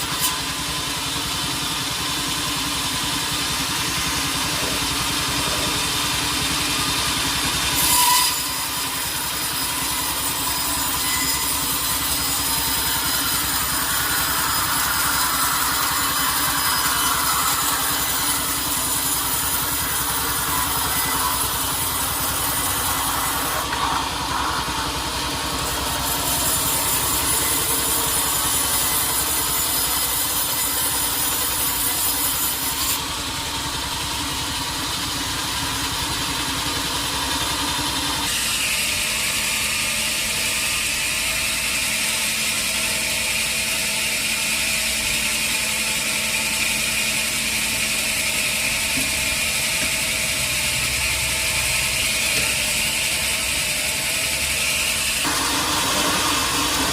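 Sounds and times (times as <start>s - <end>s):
saw noise: 0.0s - 56.9s
motor noise: 8.4s - 43.4s, 44.8s - 56.9s.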